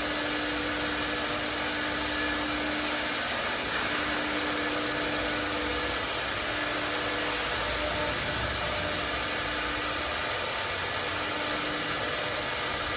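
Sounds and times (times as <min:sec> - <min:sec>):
cnc router running: 0:00.0 - 0:12.9.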